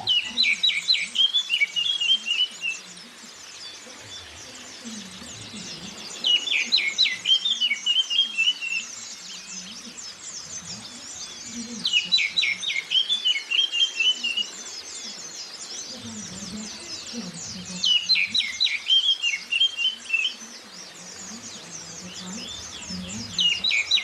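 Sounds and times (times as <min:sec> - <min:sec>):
magpie-robin song: 0:00.0 - 0:24.0
white-eyes twittering: 0:00.0 - 0:24.0.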